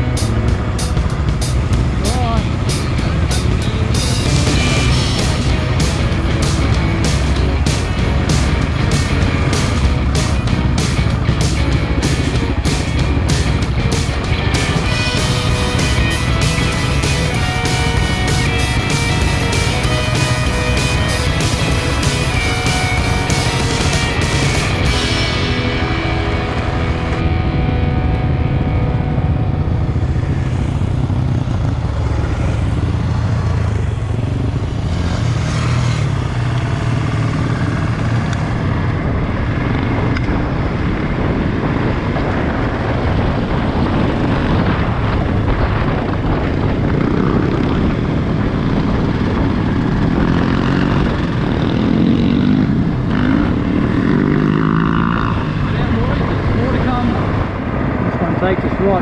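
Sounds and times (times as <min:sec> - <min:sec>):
motorcycle engine running: 0:00.0 - 0:58.2.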